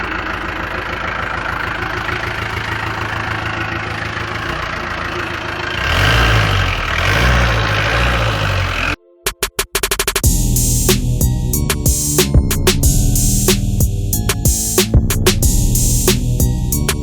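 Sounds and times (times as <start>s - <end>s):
diesel engine idling and revving: 0.0s - 9.0s, 10.3s - 17.0s.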